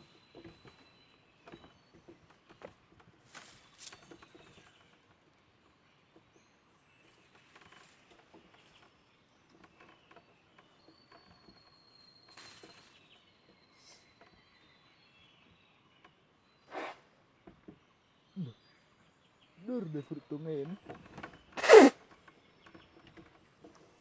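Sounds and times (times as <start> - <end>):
small rustles and ticks: 0.0 - 16.5, 17.1 - 24.0.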